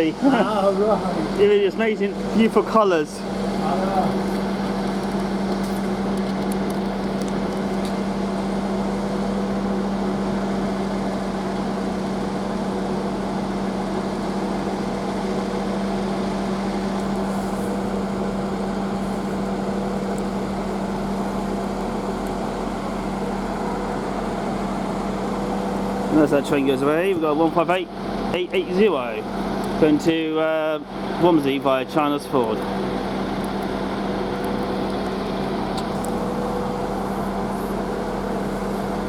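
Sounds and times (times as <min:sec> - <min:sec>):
train mechanical hum: 0:00.0 - 0:39.0.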